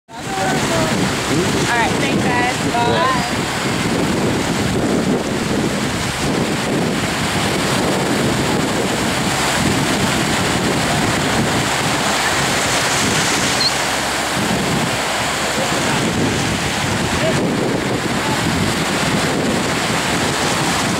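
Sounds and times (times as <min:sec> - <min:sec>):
ocean surf breaking: 0:00.1 - 0:20.9
wind buffeting microphone: 0:00.1 - 0:20.9.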